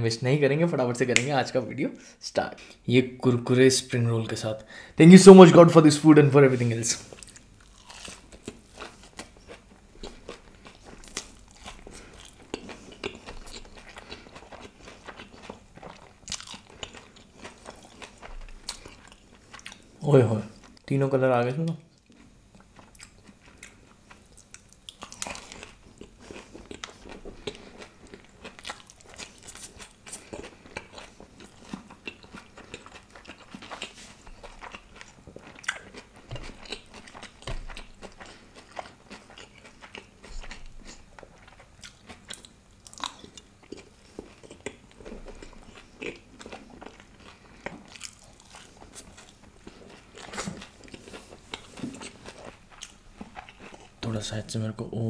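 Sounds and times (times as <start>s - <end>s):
crunching fried food: 6.8s - 20.8s, 22.0s - 54.0s
chewing: 7.1s - 19.9s, 22.0s - 54.1s.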